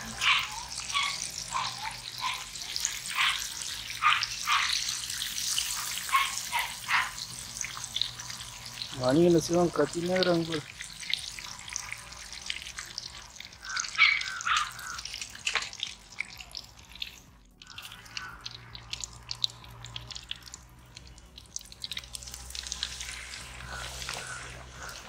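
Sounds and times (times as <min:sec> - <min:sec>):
hot oil crackling and popping: 0:00.0 - 0:25.0.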